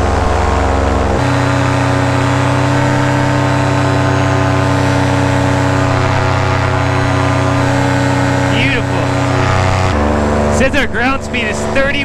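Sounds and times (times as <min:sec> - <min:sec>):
paramotor engine and propeller: 0:00.0 - 0:12.0.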